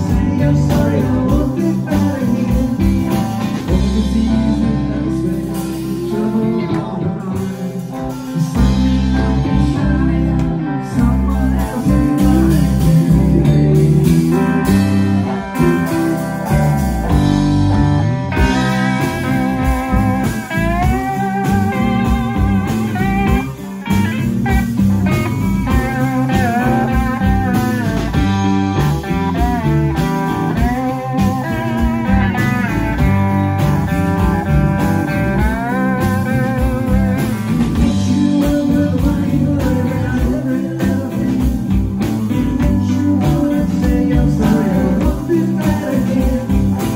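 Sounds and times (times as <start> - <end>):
bass guitar: 0.0 - 46.9
electric guitar bending notes: 0.0 - 46.9
live rock band playing: 0.0 - 46.9
steady drum beat: 0.0 - 46.9.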